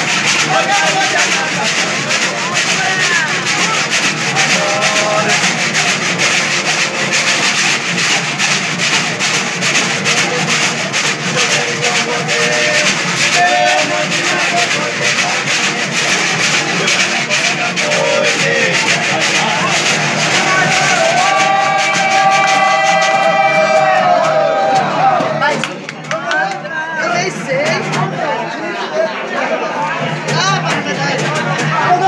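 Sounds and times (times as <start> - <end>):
plucked string notes: 0.0 - 32.0.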